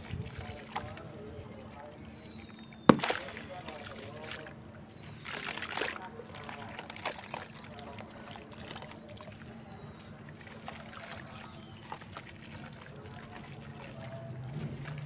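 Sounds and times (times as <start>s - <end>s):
gritty bits trickling into water: 0.0s - 15.0s
water dripping into basin: 0.0s - 15.0s
wet mud squelching: 0.0s - 15.0s.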